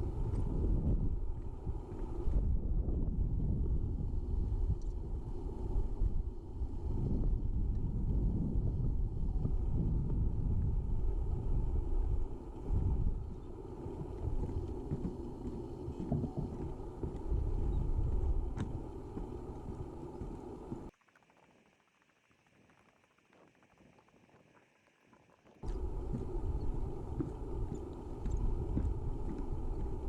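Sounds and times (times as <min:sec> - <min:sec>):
wind buffeting microphone: 0:00.0 - 0:20.9, 0:25.6 - 0:30.0.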